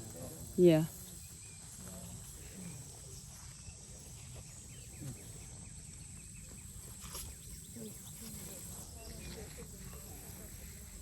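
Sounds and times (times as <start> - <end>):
insects chirping: 0.0 - 11.0
outdoor background noise: 0.0 - 11.0.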